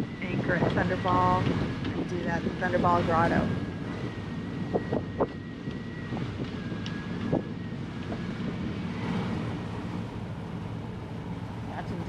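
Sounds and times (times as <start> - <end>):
boat motor drone: 0.0 - 12.0
water rushing along hull: 0.0 - 12.0
wind buffeting microphone: 0.0 - 12.0.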